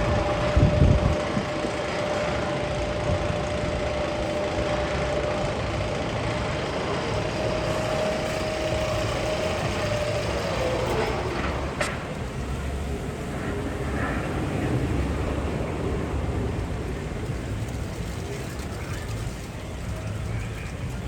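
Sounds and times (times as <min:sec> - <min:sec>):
machine rumble with falling whine: 0:00.0 - 0:21.0.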